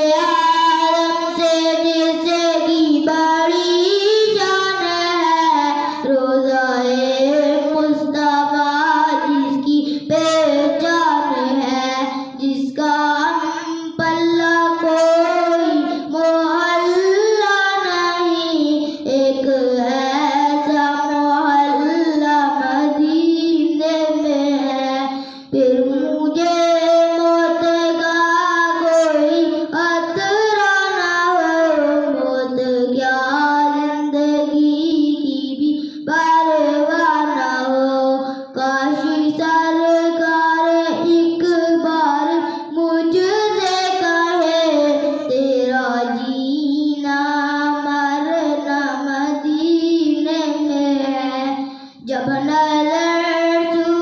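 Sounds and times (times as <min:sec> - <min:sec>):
boy singing unaccompanied: 0:00.0 - 0:54.0.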